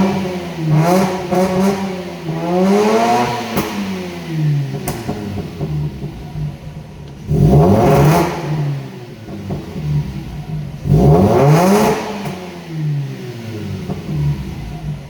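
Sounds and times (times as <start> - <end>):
rotary engine idling and revving: 0.0 - 15.0.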